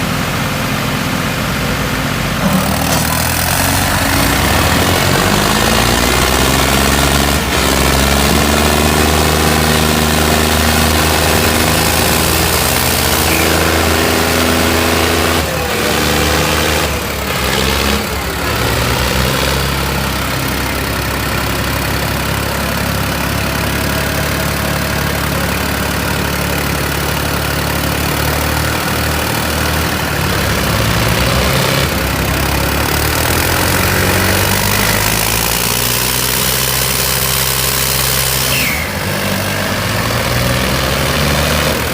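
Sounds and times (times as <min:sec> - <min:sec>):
diesel tractor engines under load: 0:00.0 - 0:41.9.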